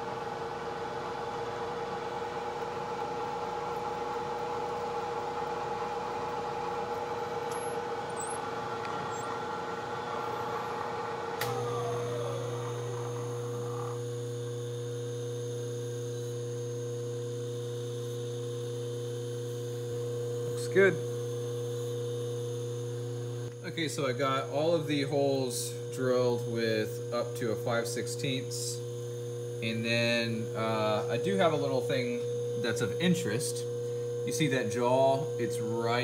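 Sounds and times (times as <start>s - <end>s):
steady electrical hum: 2.5s - 36.0s
spindle motor whining: 4.3s - 36.0s.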